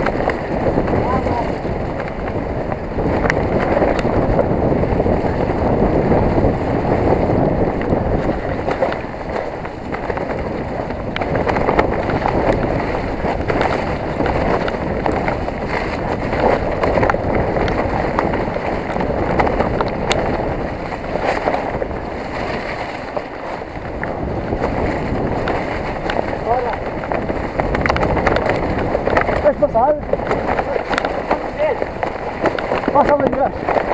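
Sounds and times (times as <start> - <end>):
bike frame and chain rattling: 0.0 - 33.9
bike tyres over dirt and stones: 0.0 - 33.9
wind rushing on microphone: 0.0 - 33.9.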